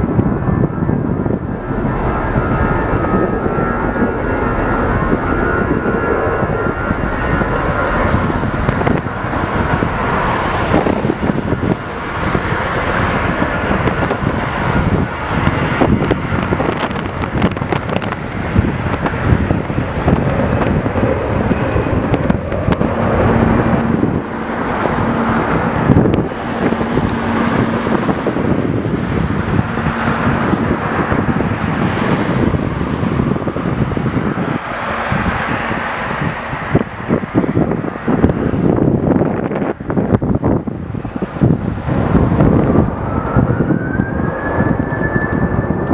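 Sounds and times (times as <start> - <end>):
jet engine rush: 0.0 - 45.9
wind buffeting microphone: 0.0 - 45.9.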